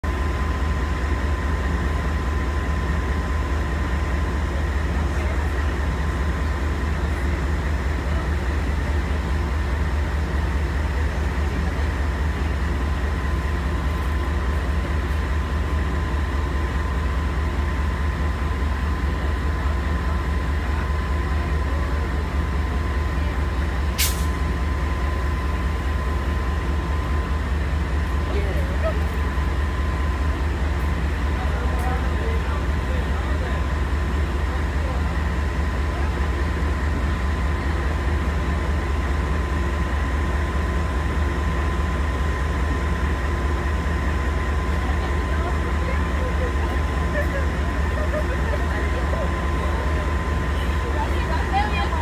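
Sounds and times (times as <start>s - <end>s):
locomotive engine rumble: 0.0s - 52.0s.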